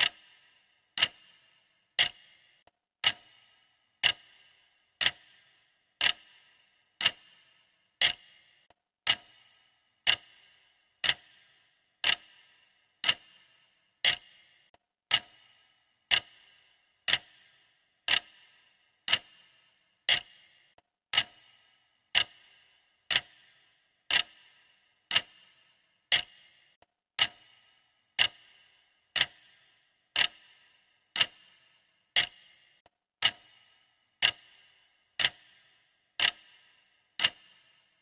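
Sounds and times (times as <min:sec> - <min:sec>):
clock ticking: 0:00.0 - 0:38.0.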